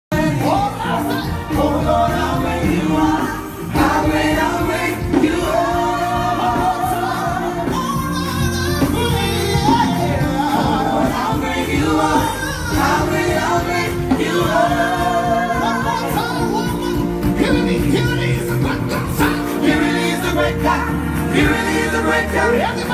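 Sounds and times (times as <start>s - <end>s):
gospel-style singing: 0.1s - 22.9s
instrumental accompaniment: 0.1s - 22.9s.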